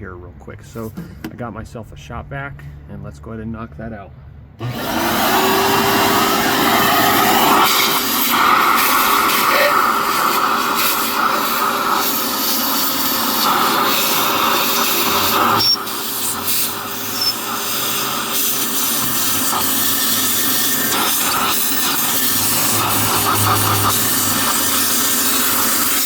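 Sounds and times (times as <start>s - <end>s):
shop vac suction hissing: 4.6s - 26.0s.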